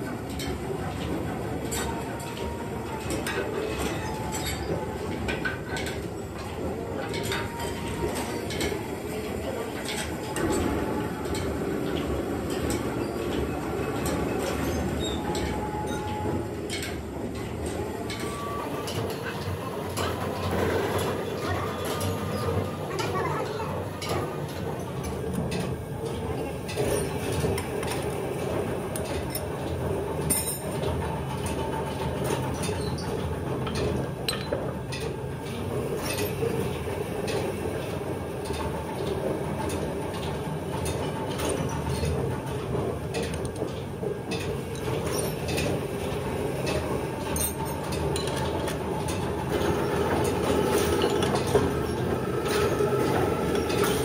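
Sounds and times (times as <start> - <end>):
workshop machinery humming: 0.0 - 54.0.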